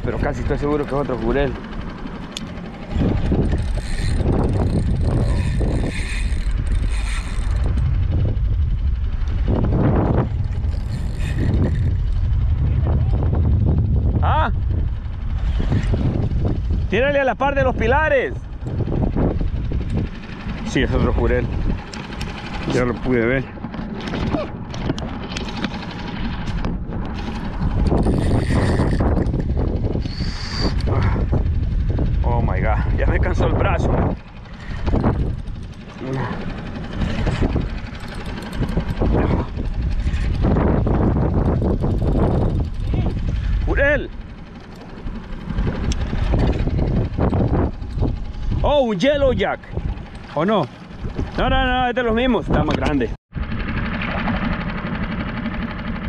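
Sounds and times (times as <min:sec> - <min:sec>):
fishing reel cranking: 0:00.0 - 0:08.4, 0:09.2 - 0:12.6, 0:18.6 - 0:51.8
loud low rumble: 0:00.0 - 0:50.3.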